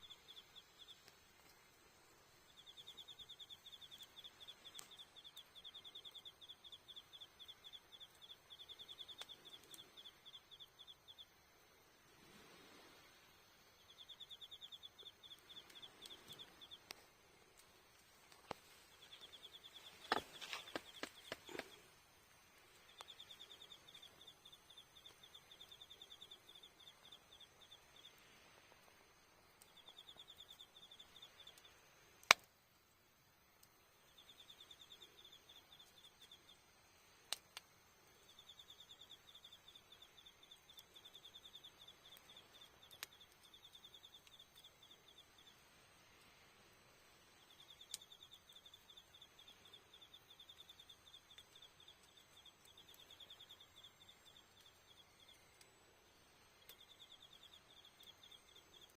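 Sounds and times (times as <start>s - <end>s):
insect chirping in pulsed trains: 0.0s - 1.1s, 1.8s - 32.0s, 32.7s - 58.9s
campfire crackling and popping: 0.0s - 58.9s.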